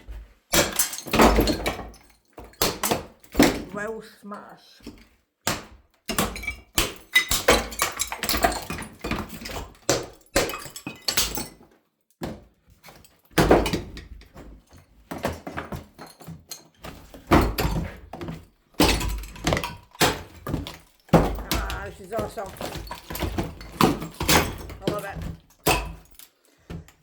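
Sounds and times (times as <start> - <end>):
tiles cracking and breaking: 0.5 - 3.7, 4.8 - 27.0
hammer blows smashing tiles: 0.5 - 3.9, 4.9 - 11.6, 13.3 - 26.9.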